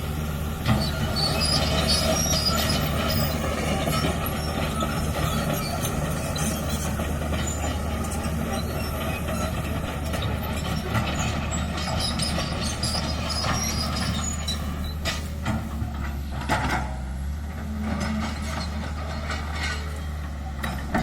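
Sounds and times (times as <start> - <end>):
excavator diesel engine running: 0.0 - 21.0
metallic clanks or squeals: 0.6 - 17.0, 17.8 - 21.0.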